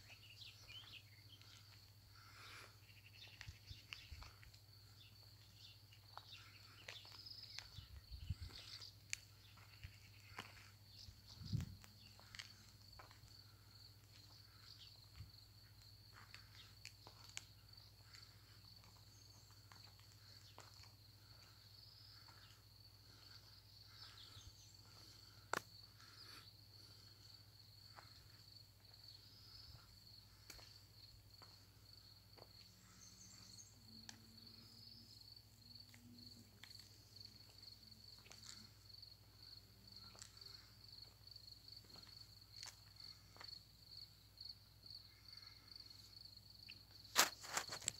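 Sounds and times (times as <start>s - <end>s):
crickets chirring: 0.0s - 47.9s.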